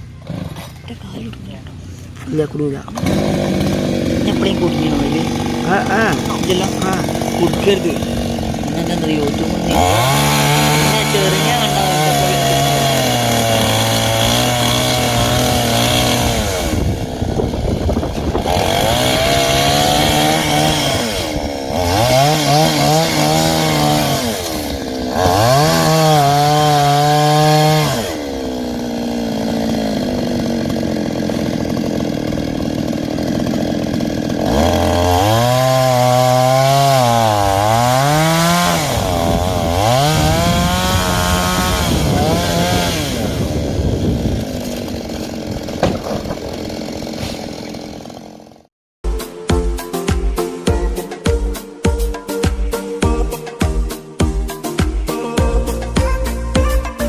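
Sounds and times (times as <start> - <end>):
chainsaw cutting wood: 0.0 - 48.7.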